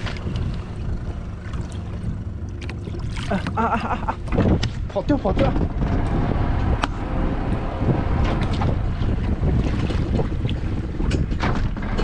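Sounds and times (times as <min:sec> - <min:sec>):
speedboat engine running: 0:00.0 - 0:12.0
water rushing along hull: 0:00.0 - 0:12.0
wind buffeting microphone: 0:00.0 - 0:12.0.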